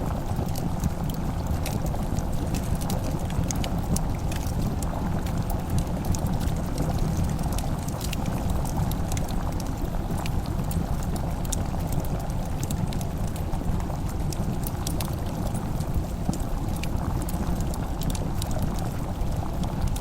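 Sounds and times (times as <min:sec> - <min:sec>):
low fire rumble: 0:00.0 - 0:20.0.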